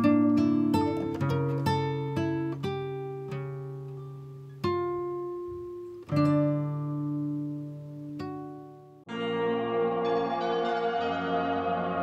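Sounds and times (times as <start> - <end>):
slow acoustic guitar: 0.0 - 12.0.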